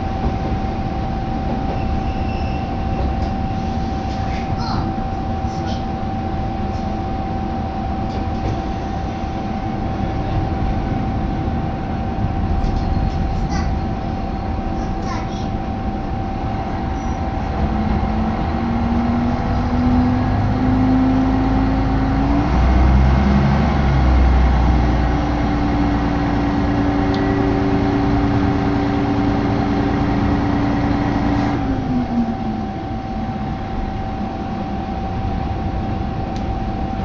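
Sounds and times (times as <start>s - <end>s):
railcar diesel engine: 0.0s - 37.0s
steady low rumble: 3.1s - 37.0s.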